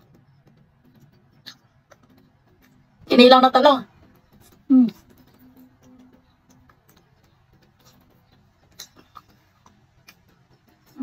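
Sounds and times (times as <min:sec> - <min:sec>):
mouth clicks and lip smacks: 0:00.0 - 0:03.0, 0:04.0 - 0:11.0.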